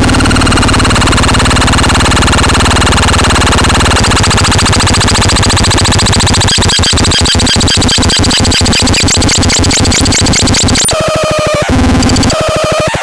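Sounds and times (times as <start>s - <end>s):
electronic siren pulsing: 0.0s - 13.0s.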